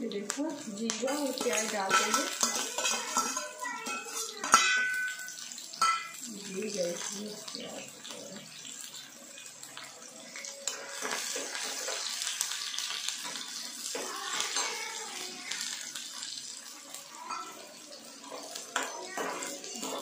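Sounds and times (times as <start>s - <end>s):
onions sizzling in hot oil: 0.0s - 20.0s
spatula stirring against pan: 0.2s - 20.0s.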